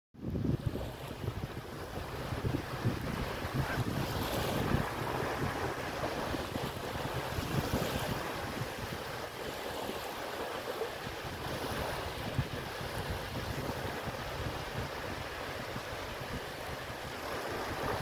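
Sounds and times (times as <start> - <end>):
sea surf washing in: 0.2 - 18.0
wind buffeting microphone: 0.2 - 18.0.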